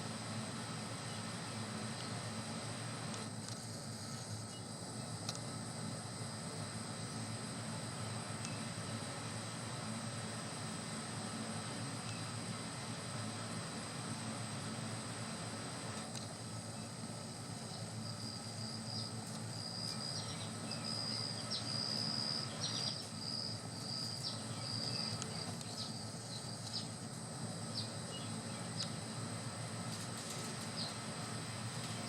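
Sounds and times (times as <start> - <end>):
insect high-pitched drone: 0.0 - 32.0.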